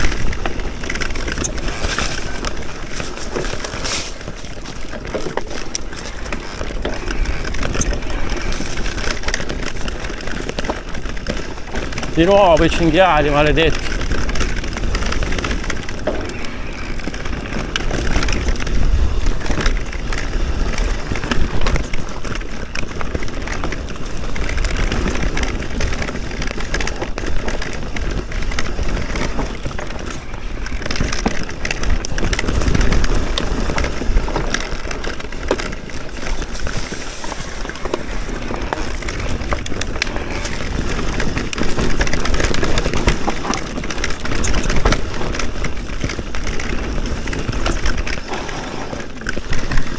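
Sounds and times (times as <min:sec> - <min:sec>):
bike knocks and rattles: 0:00.0 - 0:49.9
tyres crunching on stones: 0:00.0 - 0:49.9
wind rumble on microphone: 0:00.0 - 0:49.9.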